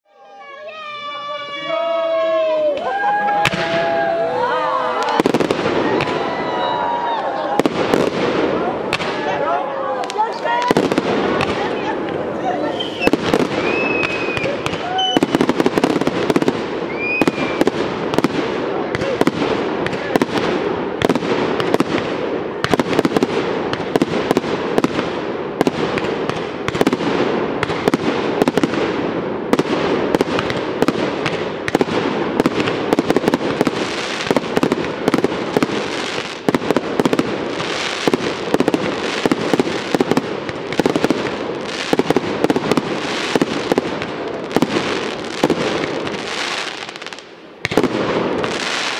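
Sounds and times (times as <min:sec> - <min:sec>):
fireworks bangs and pops: 0:02.8 - 0:04.0, 0:05.0 - 0:48.9.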